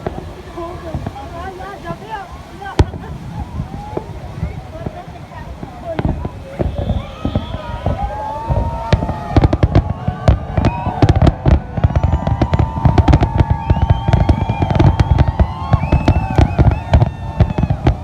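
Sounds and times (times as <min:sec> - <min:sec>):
fireworks bangs: 0:00.0 - 0:18.0
fireworks whistling: 0:00.0 - 0:18.0.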